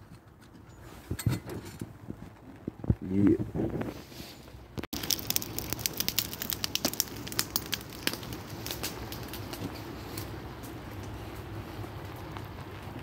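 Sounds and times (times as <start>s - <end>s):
wood fire crackling and popping: 0.2s - 13.0s.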